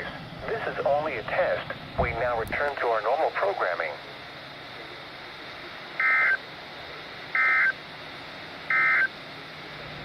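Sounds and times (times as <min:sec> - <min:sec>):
faint radio hiss: 0:00.0 - 0:10.0.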